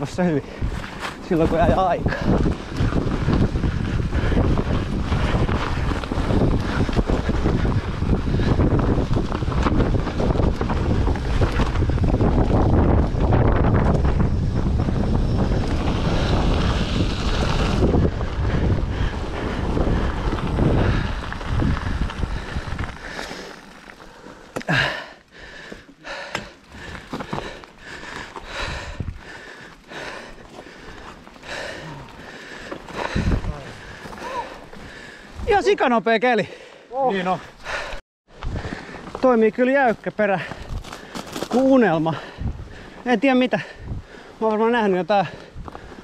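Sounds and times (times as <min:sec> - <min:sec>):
wind rushing over microphone: 0:00.0 - 0:23.8, 0:26.7 - 0:35.8, 0:37.5 - 0:39.6, 0:40.6 - 0:44.4
bike tyre rumble on trail: 0:00.0 - 0:46.0.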